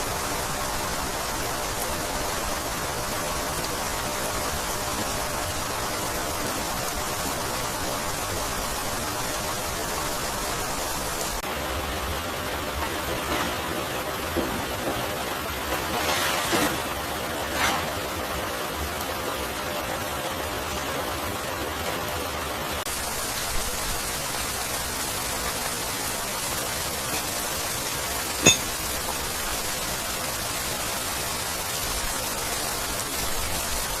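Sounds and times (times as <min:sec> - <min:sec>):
steady rain hissing: 0:00.0 - 0:34.0.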